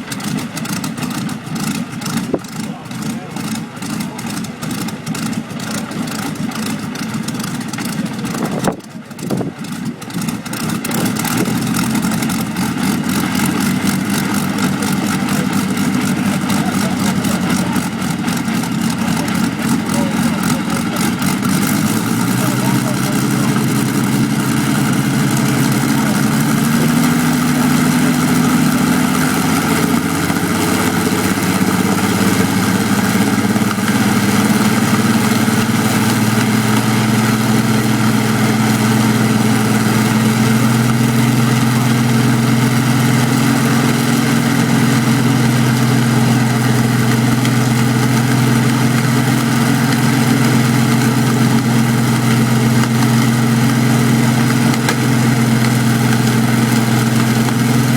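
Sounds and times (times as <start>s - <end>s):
aeroplane piston engine running: 0.0s - 57.9s.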